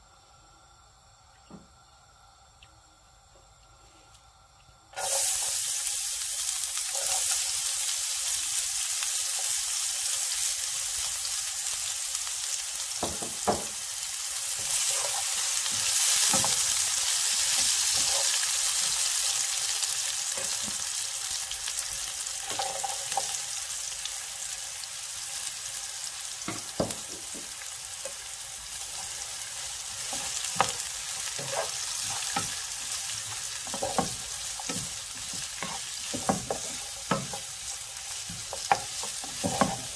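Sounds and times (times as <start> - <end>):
onion sizzling in hot oil: 4.9 - 39.9.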